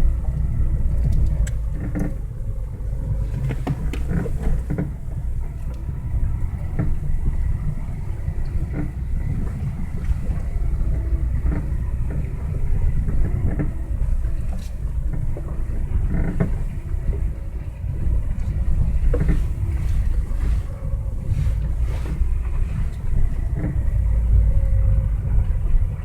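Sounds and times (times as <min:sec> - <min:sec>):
low road rumble: 0:00.0 - 0:26.0
suspension squeaking: 0:00.0 - 0:26.0.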